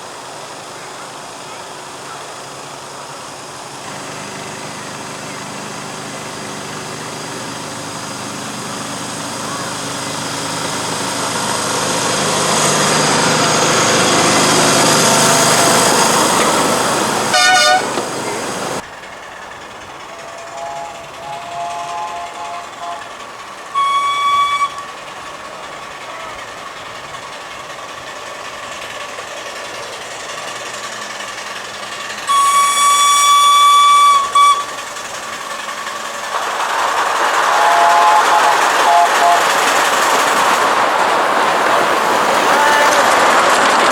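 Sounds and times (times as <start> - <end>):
miniature railway locomotive running: 0.0 - 43.9.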